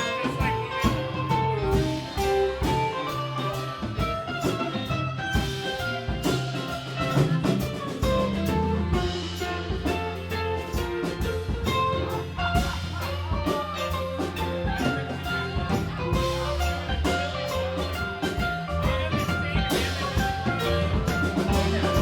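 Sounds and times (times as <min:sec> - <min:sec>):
drum kit steady beat: 0:00.0 - 0:22.0
live band playing: 0:00.0 - 0:22.0.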